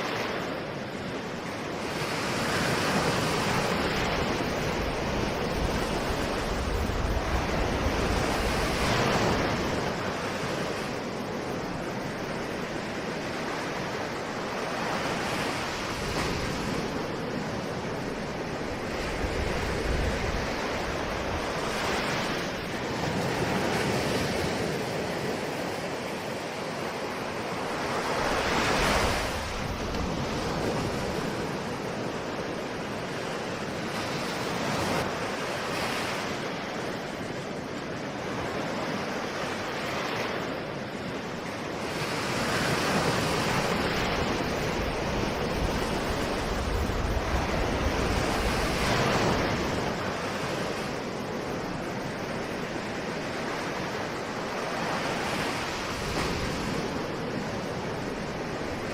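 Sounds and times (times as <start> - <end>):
ocean waves breaking on shore: 0.0 - 58.9
wind noise on microphone: 0.0 - 58.9.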